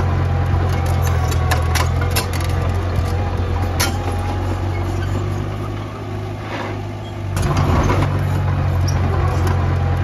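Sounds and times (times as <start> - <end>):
heavy machinery diesel engine running: 0.0 - 10.0.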